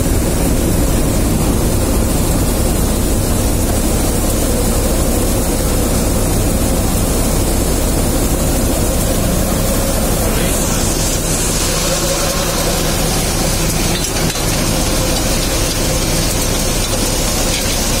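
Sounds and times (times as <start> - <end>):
threshing machine droning: 0.0 - 18.0.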